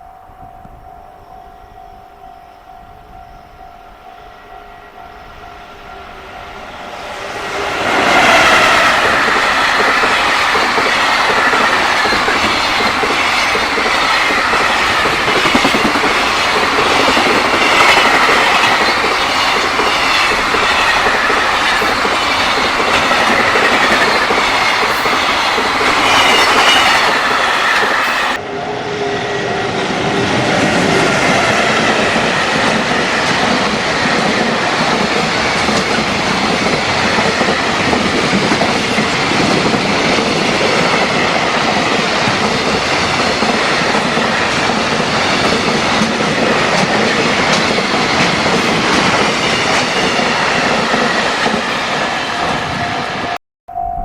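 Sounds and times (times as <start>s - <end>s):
freight train wheels clattering: 6.6s - 28.4s, 30.0s - 53.0s.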